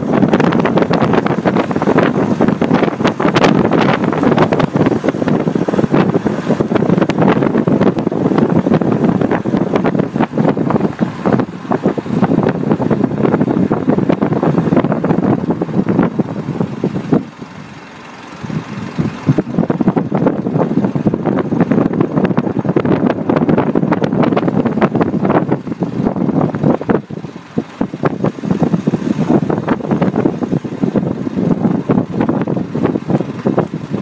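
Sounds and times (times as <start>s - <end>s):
tyres rolling on rough asphalt: 0.0s - 34.0s
wind buffeting microphone: 0.0s - 34.0s.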